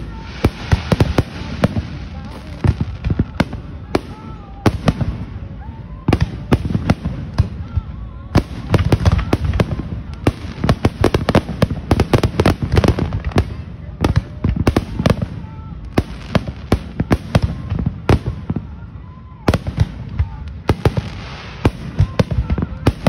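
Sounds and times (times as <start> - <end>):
fireworks bursting with sharp bangs: 0.0 - 23.0.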